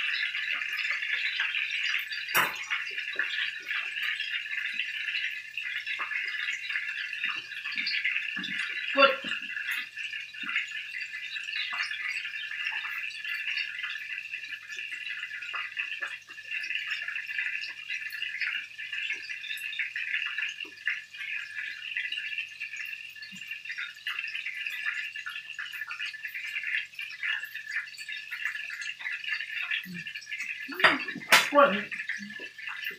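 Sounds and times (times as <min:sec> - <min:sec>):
patties sizzling in oil: 0:00.0 - 0:32.9.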